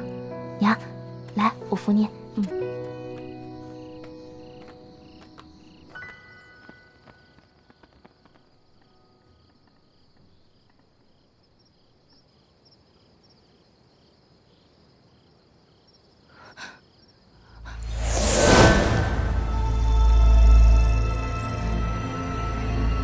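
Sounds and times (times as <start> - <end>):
crickets chirping: 0.0 - 23.0
high insect drone: 0.0 - 23.0.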